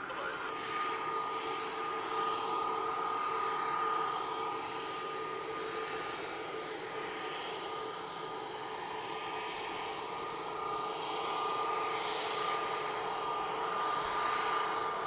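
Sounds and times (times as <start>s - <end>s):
jet engines idling whine: 0.0s - 15.0s.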